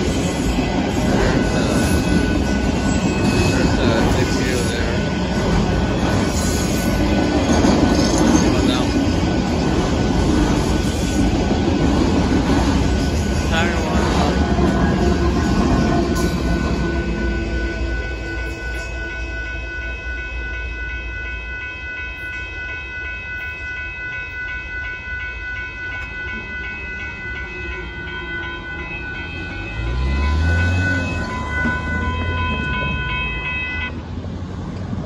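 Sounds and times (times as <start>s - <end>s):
freight train rumble: 0.0s - 35.0s
railroad crossing bells ringing: 0.0s - 35.0s.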